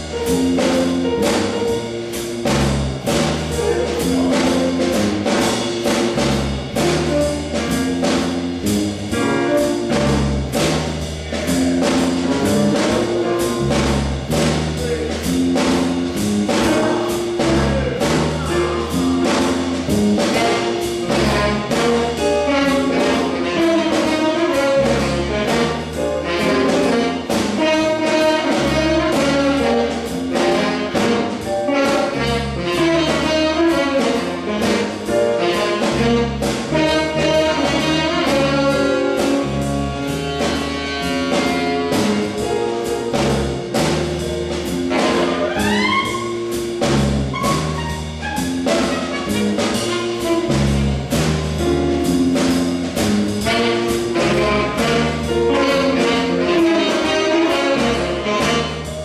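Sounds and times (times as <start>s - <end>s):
drum kit steady beat: 0.0s - 59.0s
jazz big band playing: 0.0s - 59.0s.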